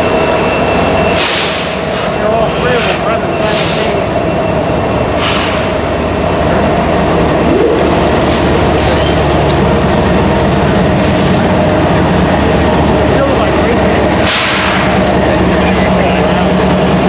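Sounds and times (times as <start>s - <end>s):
diesel locomotive engines running: 0.0s - 17.0s
freight cars moving: 0.0s - 17.0s.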